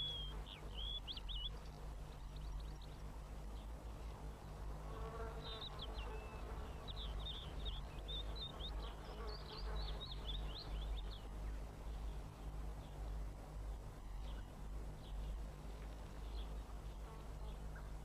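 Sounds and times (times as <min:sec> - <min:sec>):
low steady hum: 0:00.0 - 0:18.0
small birds twittering: 0:00.0 - 0:18.0.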